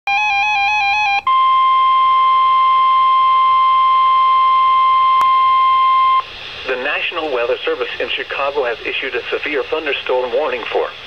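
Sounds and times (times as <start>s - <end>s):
steady warning alarm tone: 0.1s - 10.1s.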